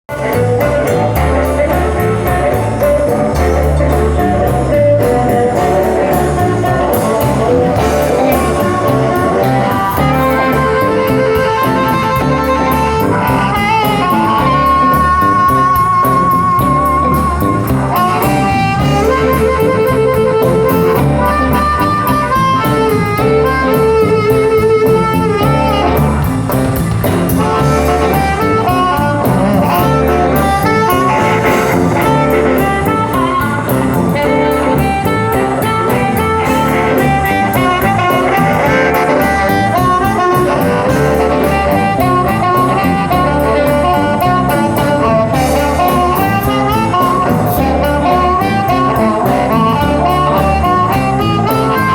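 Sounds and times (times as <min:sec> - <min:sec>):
bass: 0:00.0 - 0:51.9
electric guitar: 0:00.0 - 0:51.9
steady drum beat: 0:00.1 - 0:51.9.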